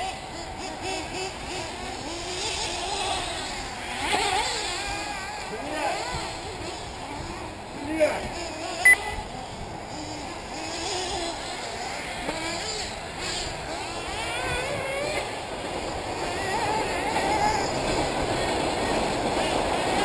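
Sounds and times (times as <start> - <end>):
rc buggy engines buzzing: 0.0 - 20.0.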